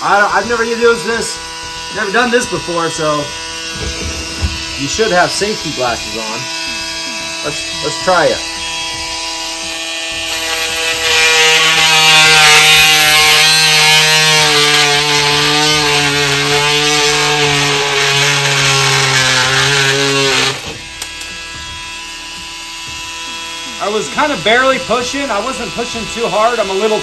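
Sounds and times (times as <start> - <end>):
oscillating multi-tool cutting screw: 0.0 - 27.0.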